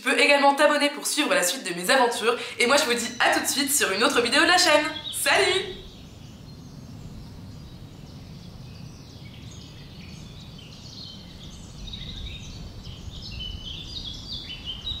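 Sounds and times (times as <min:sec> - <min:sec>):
small birds chirping: 0:02.0 - 0:15.0.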